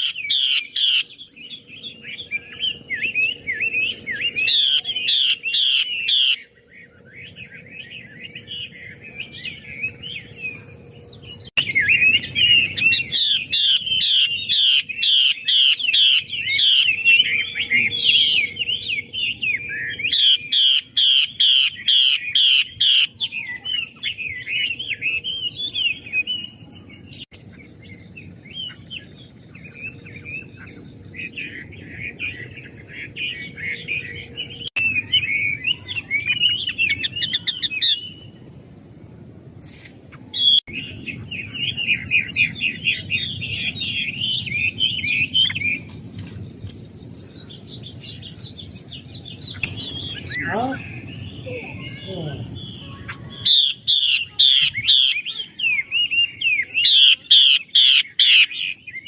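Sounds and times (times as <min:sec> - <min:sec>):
bird singing whistled notes: 0:00.0 - 0:38.4, 0:40.3 - 0:59.0.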